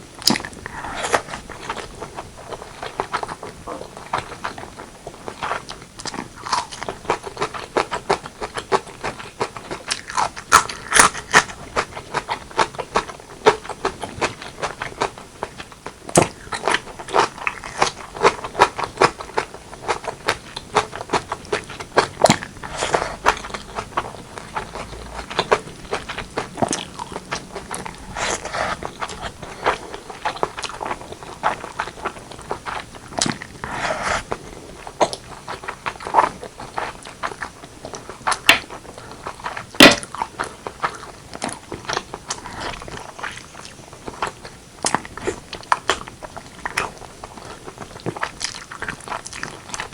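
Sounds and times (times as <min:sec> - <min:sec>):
chewing and mouth smacks: 0:00.2 - 0:49.9.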